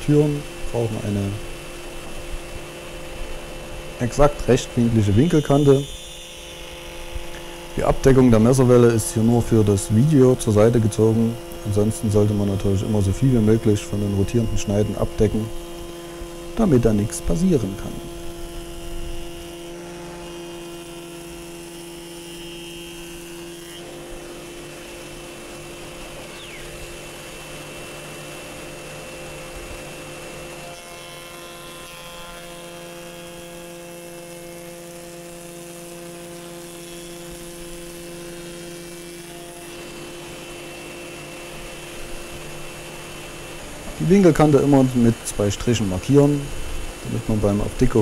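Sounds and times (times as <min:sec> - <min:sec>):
jointer-planer humming: 0:00.0 - 0:48.0.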